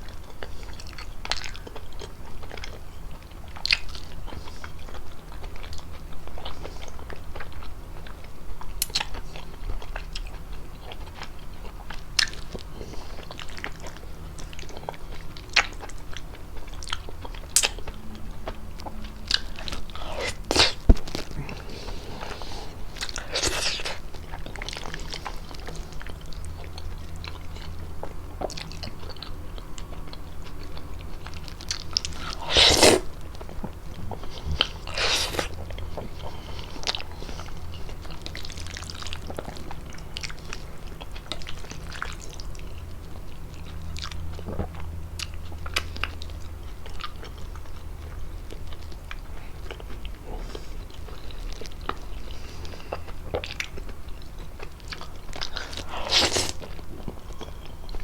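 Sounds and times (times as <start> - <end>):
chewing and biting pasta: 0.0 - 58.0.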